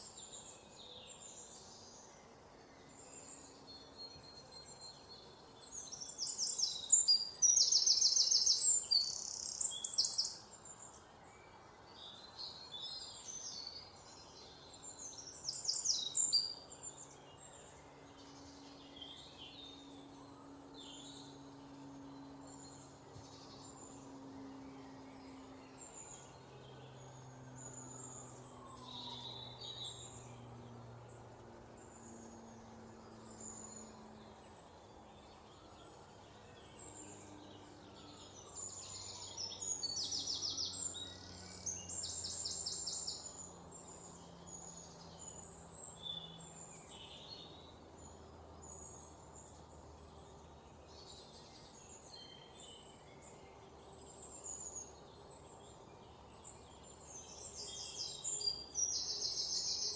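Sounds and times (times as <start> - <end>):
faint low steady hum: 0.0 - 59.9
songbirds chirping and trilling: 0.0 - 59.9.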